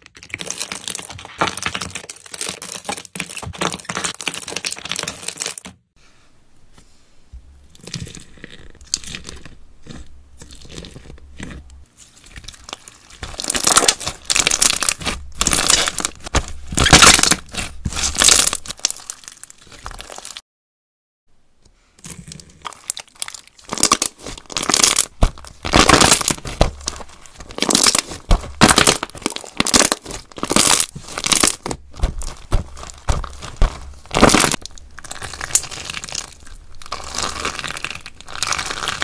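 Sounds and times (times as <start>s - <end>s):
crunchy slime being squeezed: 0.0s - 5.8s, 7.8s - 20.4s, 22.0s - 39.0s.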